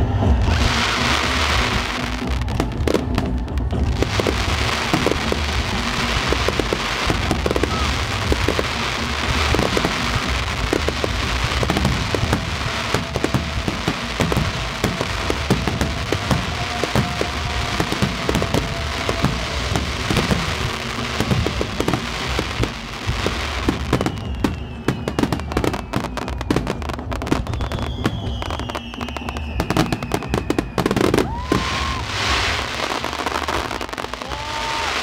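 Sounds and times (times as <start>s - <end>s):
falling firework whistles: 0.0s - 35.0s
fireworks bursting and crackling: 0.0s - 35.0s.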